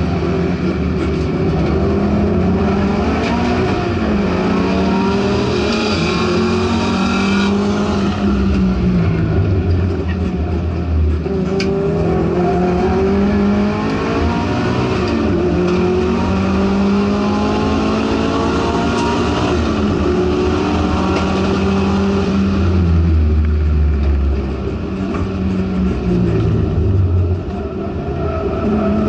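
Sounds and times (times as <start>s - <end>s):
race car engine at full throttle: 0.0s - 29.0s
road and wind noise: 0.0s - 29.0s.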